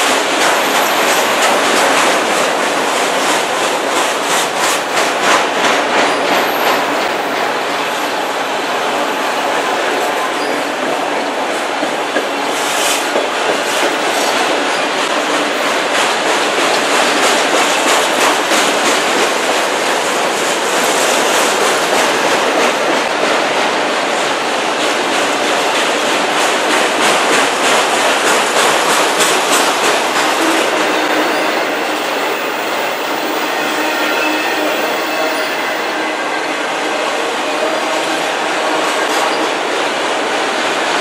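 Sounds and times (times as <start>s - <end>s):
wheels clacking over rail joints: 0.0s - 40.9s
train wheels rumbling on rail: 0.0s - 41.0s.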